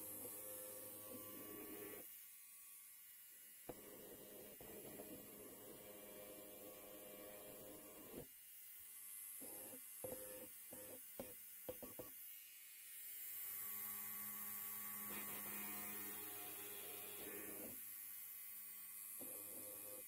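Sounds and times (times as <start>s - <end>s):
electric hair trimmer humming: 0.0s - 20.0s.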